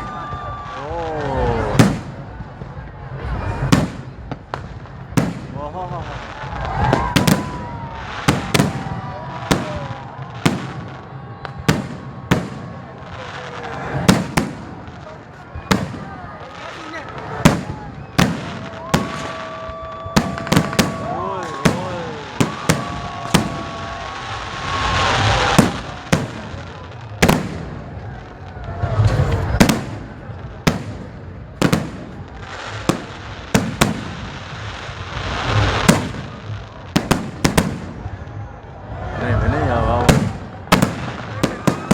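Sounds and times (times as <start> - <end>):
fireworks bangs: 0.0 - 41.9
fireworks crackle and hiss: 0.0 - 41.9.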